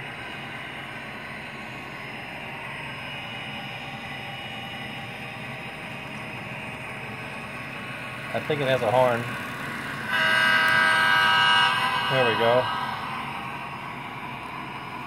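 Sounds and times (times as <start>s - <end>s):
diesel engine rumble: 0.0s - 15.0s
model train running on track: 0.0s - 15.0s.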